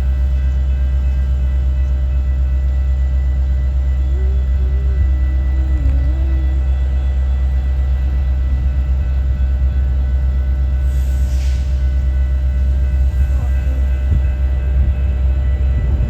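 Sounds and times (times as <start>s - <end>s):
train passing rumble: 0.0s - 16.0s.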